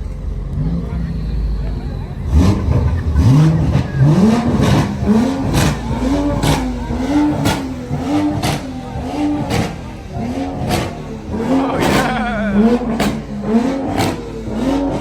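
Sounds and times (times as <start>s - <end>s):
car engine revving: 0.0s - 15.0s
sharp crack of engine rev: 2.2s - 15.0s.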